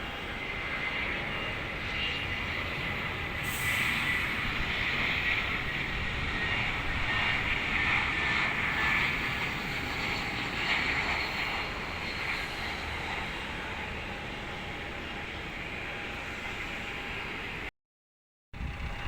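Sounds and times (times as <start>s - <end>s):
jet engines rushing: 0.0s - 17.7s.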